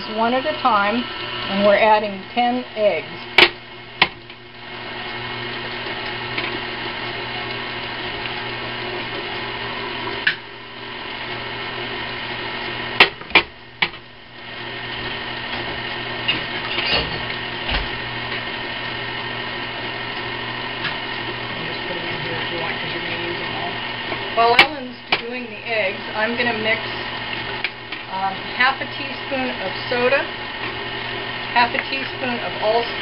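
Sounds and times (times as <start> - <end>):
electric stand mixer running: 0.0 - 33.0.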